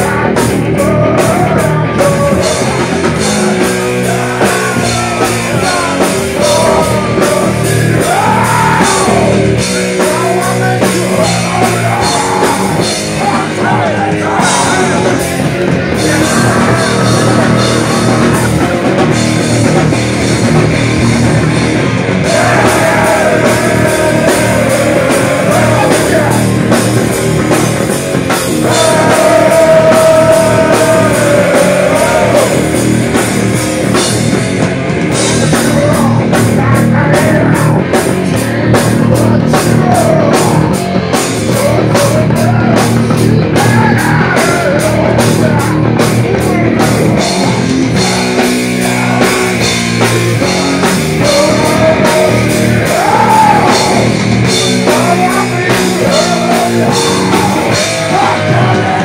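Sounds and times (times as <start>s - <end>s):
man singing: 0.0s - 19.1s, 22.2s - 27.1s, 28.6s - 33.2s, 35.2s - 59.0s
distorted electric guitars: 0.0s - 59.0s
drum kit: 0.0s - 59.0s.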